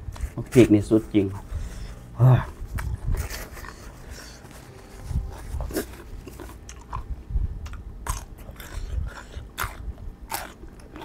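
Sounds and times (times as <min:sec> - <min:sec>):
crunchy chewing of raw vegetables: 0:00.0 - 0:11.0.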